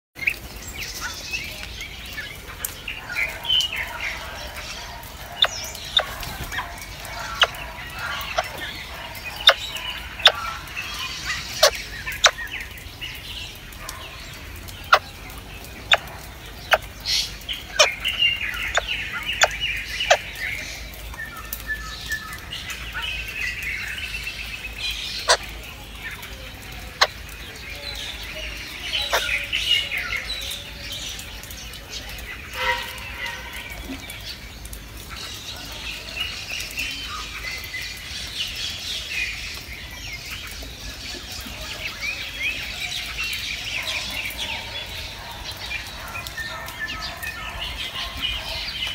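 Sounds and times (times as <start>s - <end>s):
blackbird chirping calls: 0.2s - 48.9s.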